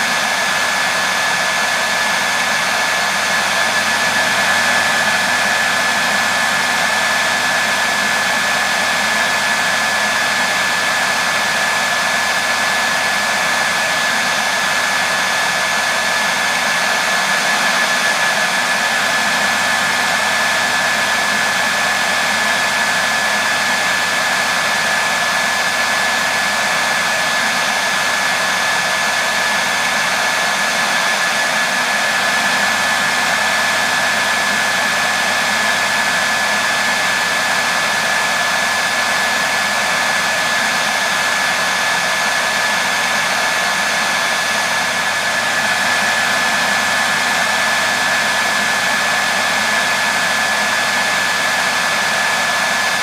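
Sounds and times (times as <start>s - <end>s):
hair dryer running: 0.0s - 53.0s.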